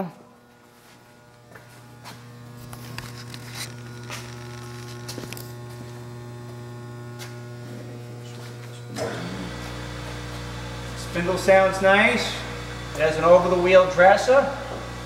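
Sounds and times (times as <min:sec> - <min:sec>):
deeper hum: 0:00.0 - 0:15.0
grinder motor humming: 0:00.2 - 0:15.0.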